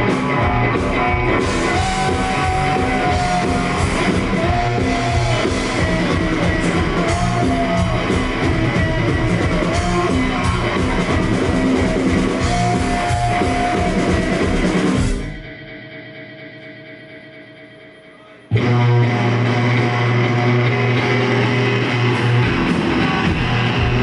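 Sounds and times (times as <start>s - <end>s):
drum kit beat: 0.0s - 15.5s, 18.6s - 24.0s
electric guitar: 0.0s - 24.0s.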